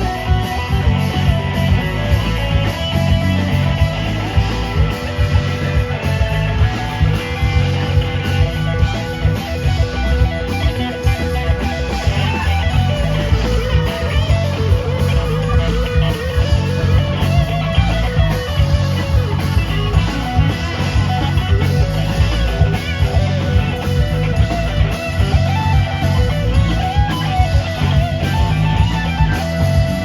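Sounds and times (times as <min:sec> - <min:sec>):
live rock band playing: 0:00.0 - 0:30.0
wavering lead guitar: 0:00.0 - 0:30.0.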